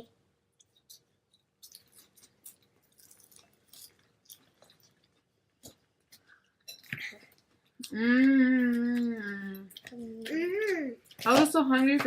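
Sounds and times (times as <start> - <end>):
crunching and chewing salad: 0.6 - 11.4.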